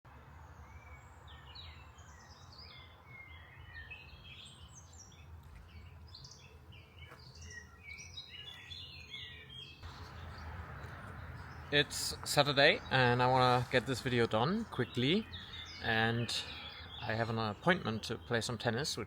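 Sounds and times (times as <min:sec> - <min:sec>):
songbirds chirping and singing: 0:00.2 - 0:19.0.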